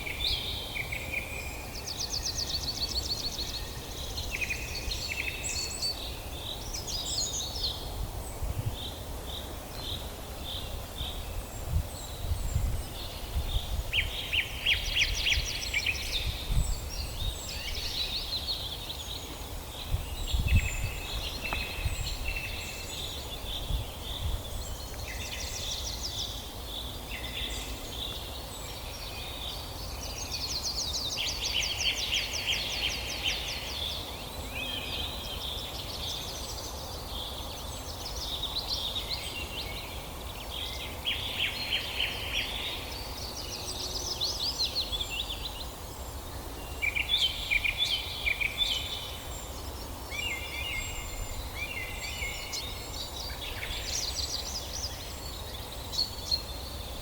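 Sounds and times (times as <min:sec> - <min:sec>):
songbirds singing and trilling: 0:00.0 - 0:57.0.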